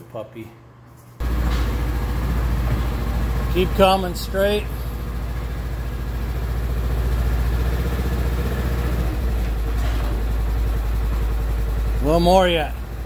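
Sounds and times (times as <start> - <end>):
utility vehicle engine running: 1.2 - 13.0.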